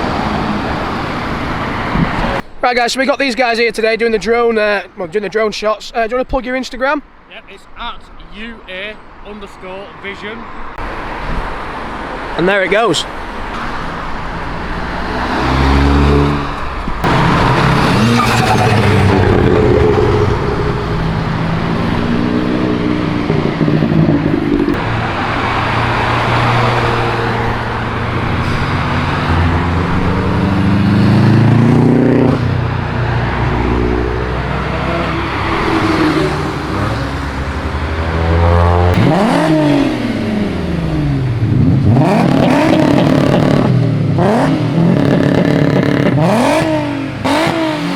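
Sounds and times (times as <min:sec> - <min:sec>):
cars accelerating past: 0:00.0 - 0:02.4, 0:10.7 - 0:47.9.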